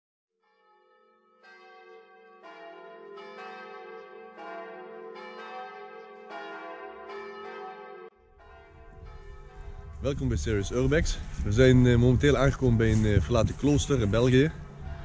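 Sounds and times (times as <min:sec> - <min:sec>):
church bells ringing: 0:00.4 - 0:15.0.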